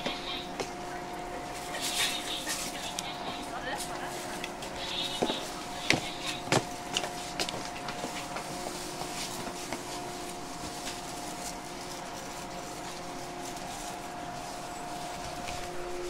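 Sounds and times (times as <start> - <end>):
train equipment mechanical hum: 0.0 - 16.0.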